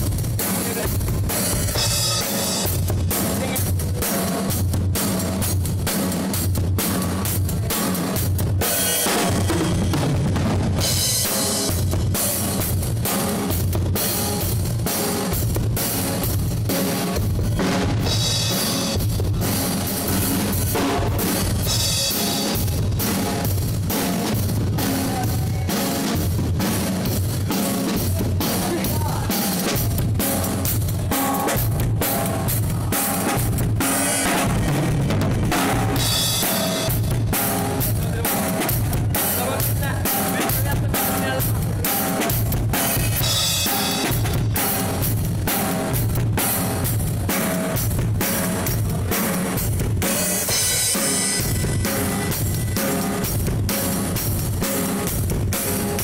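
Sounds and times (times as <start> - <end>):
drum kit playing: 0.0 - 56.0.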